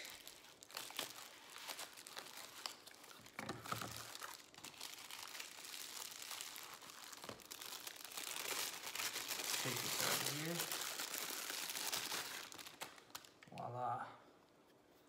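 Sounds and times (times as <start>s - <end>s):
plastic wrap crinkling: 0.0s - 13.5s.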